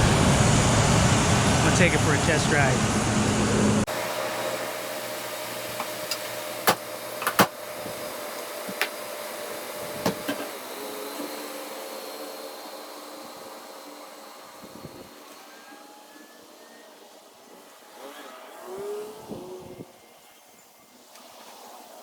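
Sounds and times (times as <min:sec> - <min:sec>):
air conditioning blower rushing: 0:00.0 - 0:20.2.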